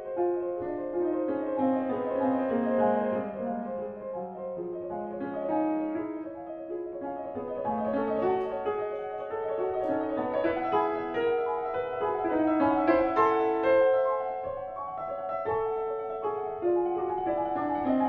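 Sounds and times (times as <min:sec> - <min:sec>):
classical grand piano: 0:00.0 - 0:18.0.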